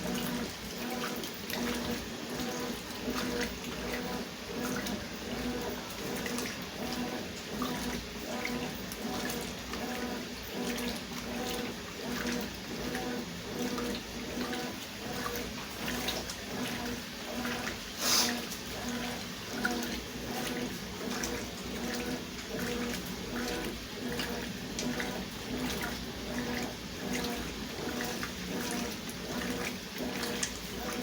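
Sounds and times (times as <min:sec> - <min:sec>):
washing machine motor hum: 0:00.0 - 0:31.0
water churning and sloshing: 0:00.0 - 0:31.0.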